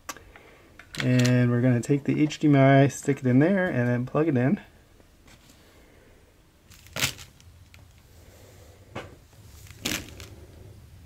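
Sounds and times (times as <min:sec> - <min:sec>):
faint room noise: 0:00.0 - 0:11.0.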